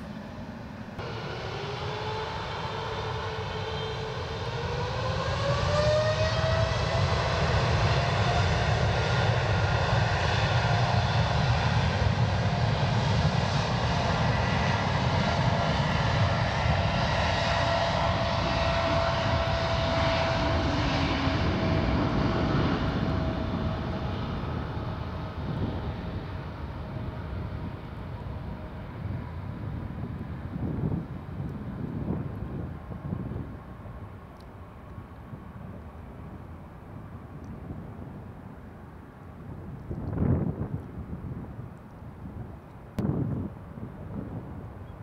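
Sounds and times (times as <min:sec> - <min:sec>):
jet engine rumble: 0:00.0 - 0:45.0
jet engine whine: 0:00.0 - 0:45.0.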